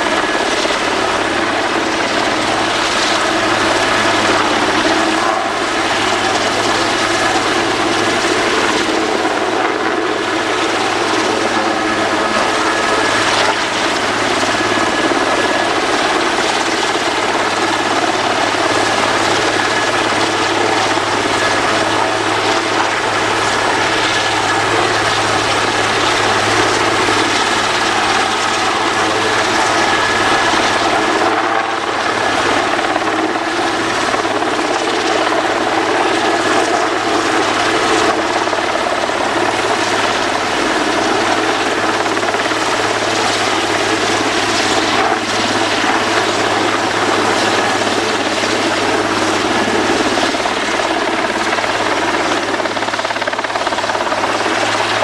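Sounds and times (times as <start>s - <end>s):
helicopter rotor and turbine: 0.0s - 55.0s.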